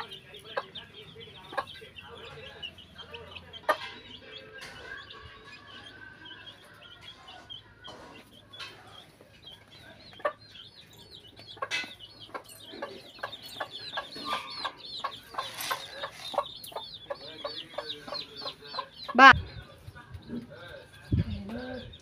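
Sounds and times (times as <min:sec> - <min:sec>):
chicks peeping: 0:00.0 - 0:22.0
hen clucking: 0:00.0 - 0:22.0.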